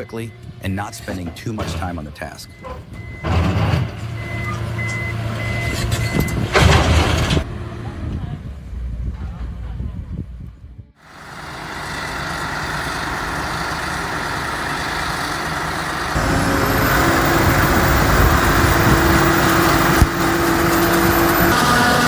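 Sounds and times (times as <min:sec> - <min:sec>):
heavy vehicle engine running: 0:00.0 - 0:22.0.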